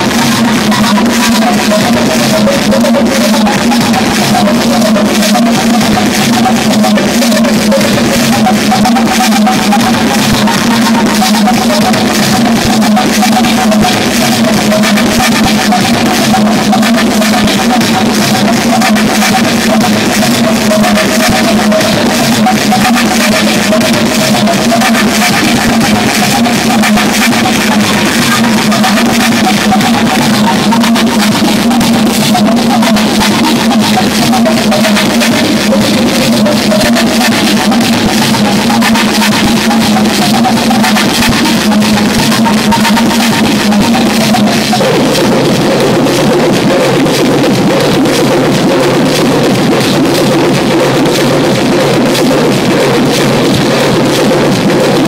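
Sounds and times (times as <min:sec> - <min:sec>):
loud electronic music: 0:00.0 - 0:55.0
steady low drone: 0:00.0 - 0:55.0.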